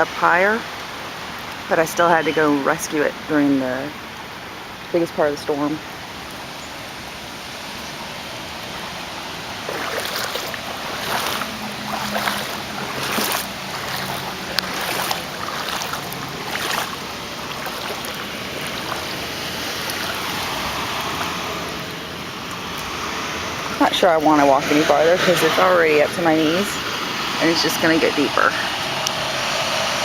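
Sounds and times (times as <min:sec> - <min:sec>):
wading splashes in floodwater: 0:00.0 - 0:30.0
water washing: 0:00.0 - 0:30.0.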